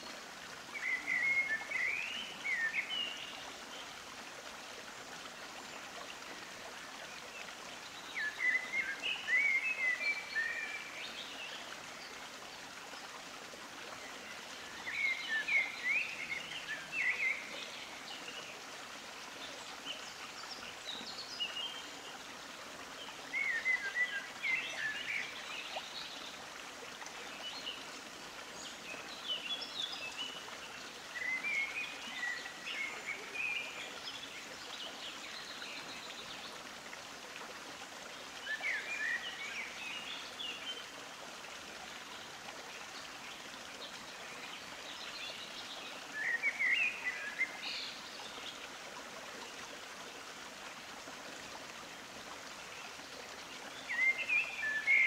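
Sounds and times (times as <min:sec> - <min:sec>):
running stream rush: 0:00.0 - 0:55.0.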